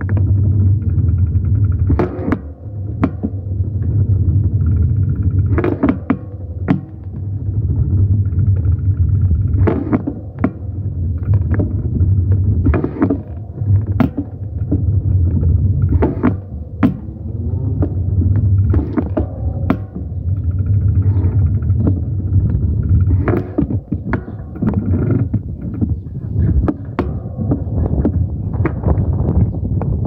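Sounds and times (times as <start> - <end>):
sharp knocks and clicks: 0.0 - 30.0
steady low rumble: 0.0 - 30.0.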